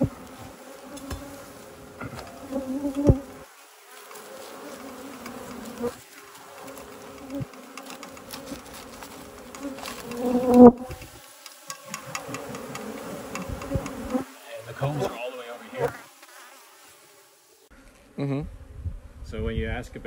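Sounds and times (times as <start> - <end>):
honey bees buzzing: 0.0 - 18.4.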